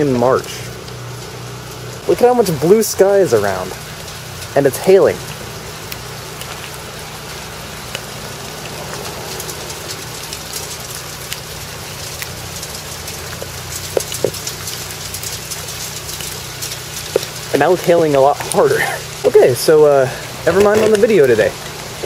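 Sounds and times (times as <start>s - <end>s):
hail ticking and tapping: 0.0s - 22.0s
steady low hum: 0.0s - 22.0s.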